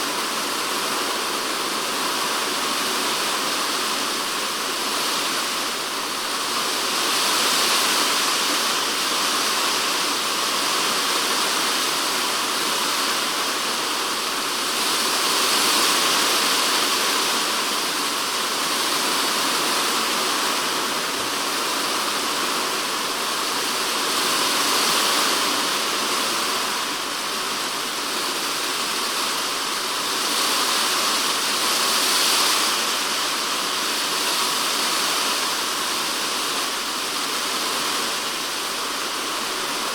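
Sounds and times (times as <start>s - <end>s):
heavy rain drumming on roof: 0.0s - 39.9s.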